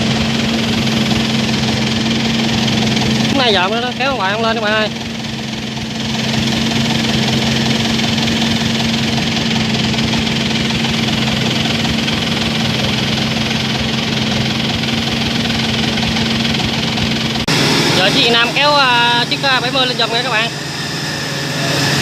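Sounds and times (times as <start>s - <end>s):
combine harvester engine straining: 0.0s - 22.0s.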